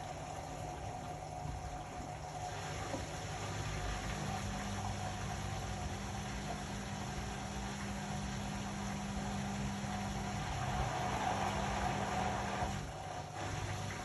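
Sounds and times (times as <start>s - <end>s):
low steady hum: 0.0s - 14.0s
washing machine running: 0.0s - 14.0s.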